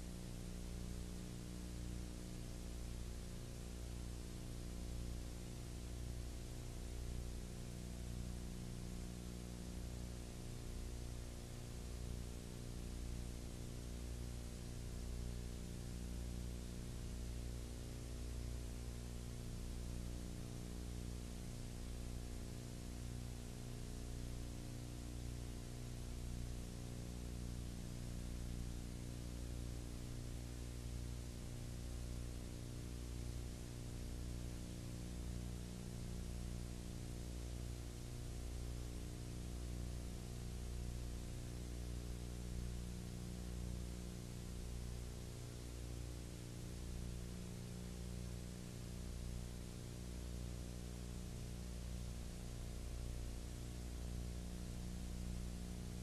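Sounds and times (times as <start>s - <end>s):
constant hiss: 0.0s - 56.0s
electrical hum: 0.0s - 56.0s.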